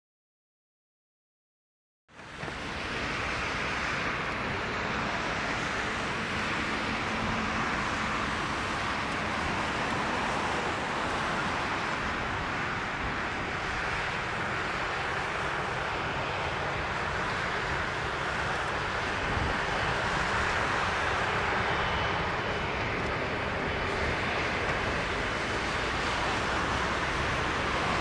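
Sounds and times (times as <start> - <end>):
jet engines roaring: 2.1 - 28.0.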